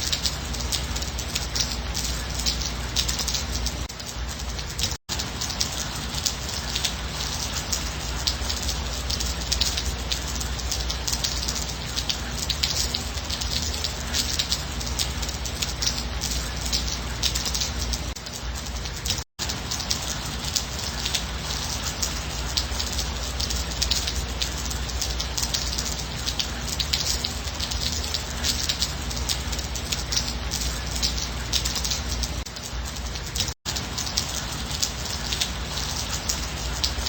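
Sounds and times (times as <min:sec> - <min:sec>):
gentle rain patter: 0:00.0 - 0:37.0.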